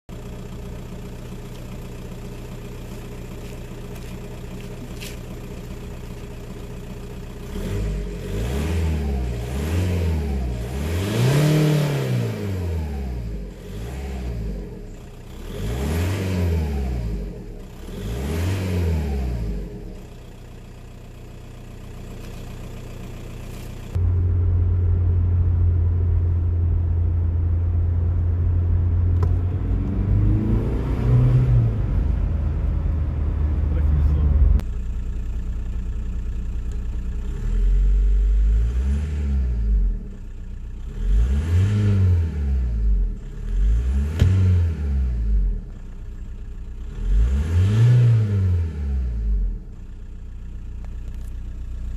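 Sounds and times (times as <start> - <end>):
diesel engine idling and revving: 0.1 - 51.9.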